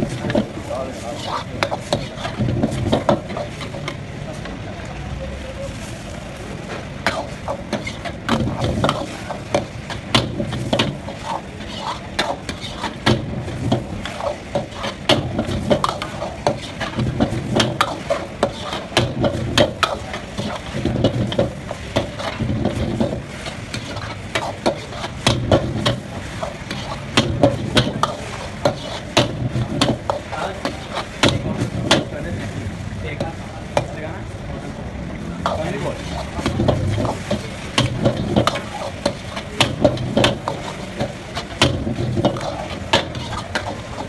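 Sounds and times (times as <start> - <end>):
metal spatula scraping a wok: 0.0 - 4.0, 7.0 - 32.2, 35.4 - 44.0
food sizzling: 0.0 - 4.4, 6.0 - 34.1, 35.2 - 44.0.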